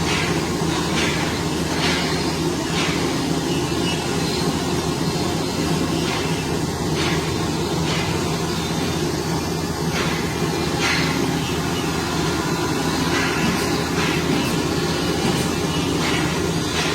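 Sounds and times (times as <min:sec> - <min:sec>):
woodworking machinery drone: 0:00.0 - 0:16.9.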